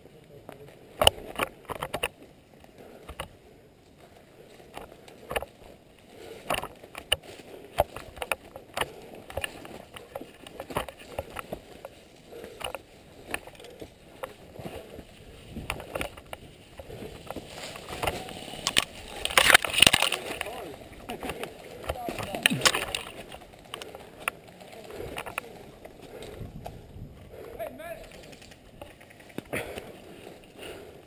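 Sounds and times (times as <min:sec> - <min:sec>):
branches rustling: 0:00.2 - 0:31.0.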